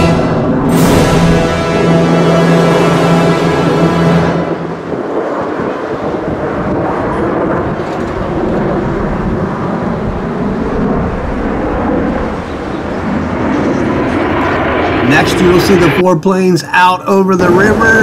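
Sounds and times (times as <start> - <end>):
distant jets roaring: 0.0 - 18.0.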